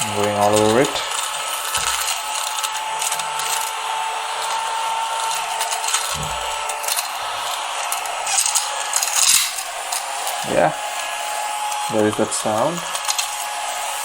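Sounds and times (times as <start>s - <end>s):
small vacuum motor whine: 0.0s - 14.0s.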